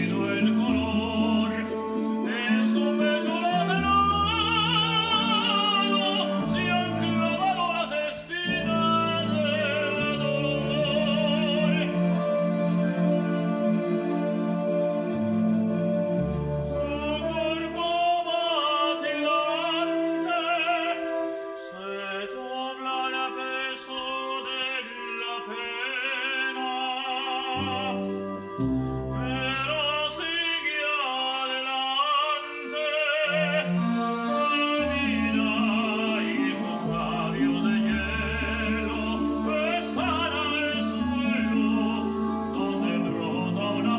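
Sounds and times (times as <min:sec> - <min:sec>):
operatic solo singing: 0:00.0 - 0:14.2, 0:16.7 - 0:43.9
sustained instrumental accompaniment: 0:00.0 - 0:43.9.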